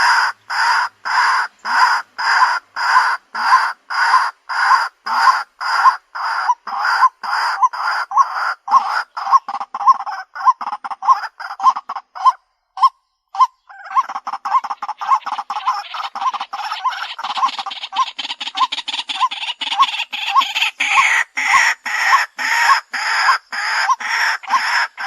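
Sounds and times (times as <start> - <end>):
waterhen croaking calls: 0.0 - 25.0.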